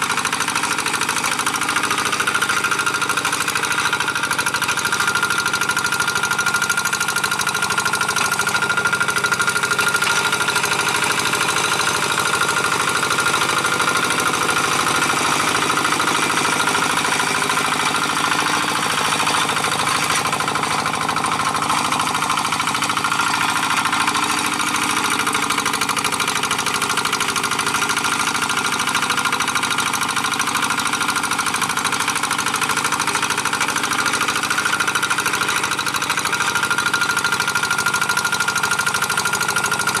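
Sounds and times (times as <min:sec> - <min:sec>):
diesel engine knocking: 0:00.0 - 0:40.0
plow pulled through soil: 0:00.0 - 0:40.0.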